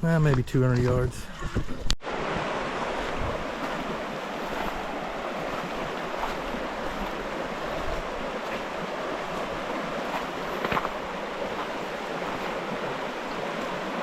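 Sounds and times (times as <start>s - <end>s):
creek water rushing: 0.7s - 14.0s.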